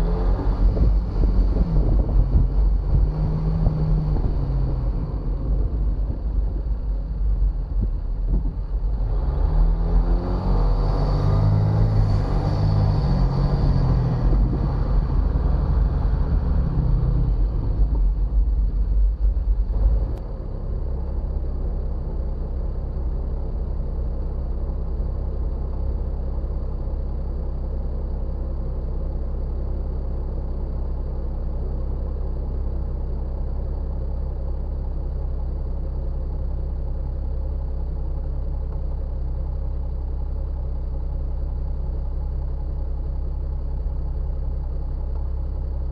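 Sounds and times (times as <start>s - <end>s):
vehicle engine rumbling: 0.0s - 45.9s
engine idling: 0.7s - 9.2s, 13.3s - 45.9s.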